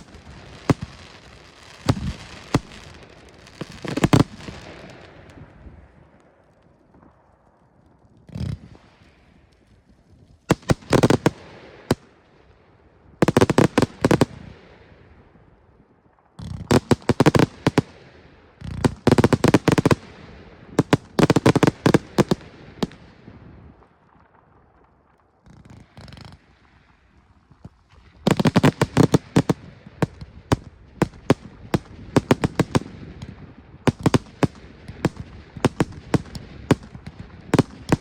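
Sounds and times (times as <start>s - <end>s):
rapid sharp firework bangs: 0.0s - 5.5s, 10.5s - 12.2s, 13.2s - 14.9s, 16.3s - 38.0s.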